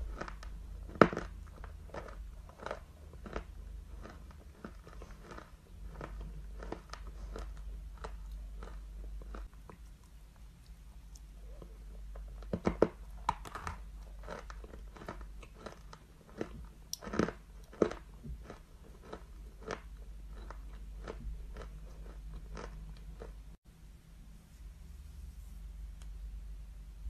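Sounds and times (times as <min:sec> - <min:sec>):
person crunching and chewing: 0:00.0 - 0:23.5.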